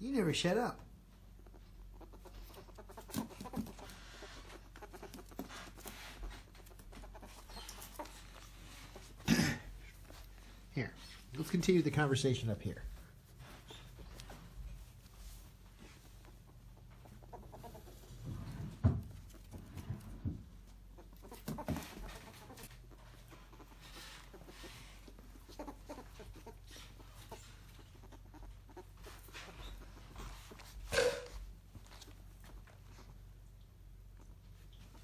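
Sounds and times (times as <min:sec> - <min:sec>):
ferret dooking: 0:00.0 - 0:35.0.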